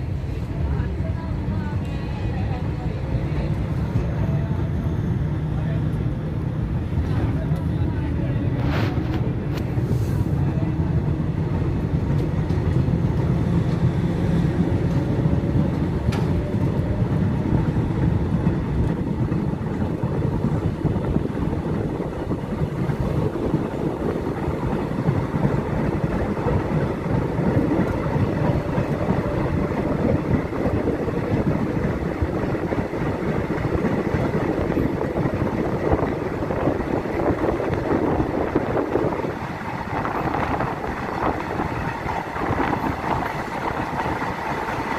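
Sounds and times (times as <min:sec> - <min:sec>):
train rumbling and rattling: 0:00.0 - 0:44.9.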